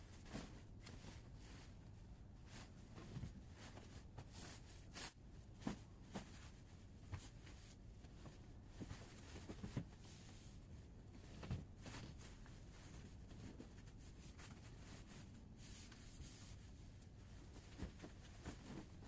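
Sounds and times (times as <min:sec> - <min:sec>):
soft bumps and swishes: 0:00.0 - 0:01.8, 0:02.4 - 0:14.8, 0:17.2 - 0:19.0
bedsheet rustling: 0:00.0 - 0:19.0.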